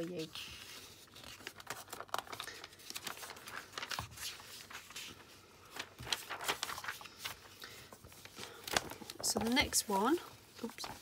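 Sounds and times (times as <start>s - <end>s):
pages turning: 0.0s - 11.0s
paper rustling and crinkling: 0.0s - 11.0s.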